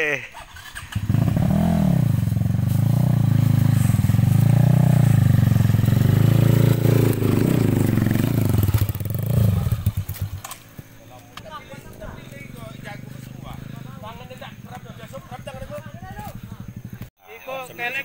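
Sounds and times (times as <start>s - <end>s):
dirt bike engine revving: 0.4s - 10.8s, 11.5s - 17.1s.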